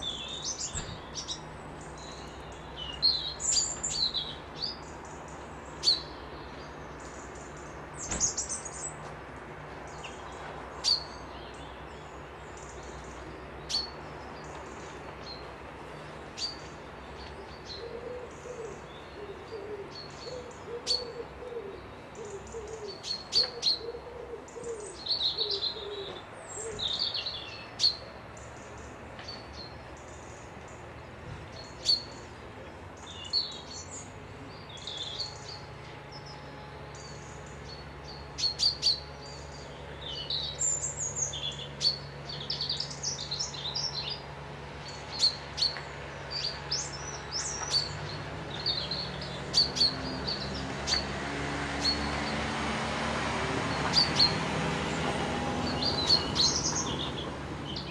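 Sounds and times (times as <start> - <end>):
birds singing and chirping: 0.0 - 57.9.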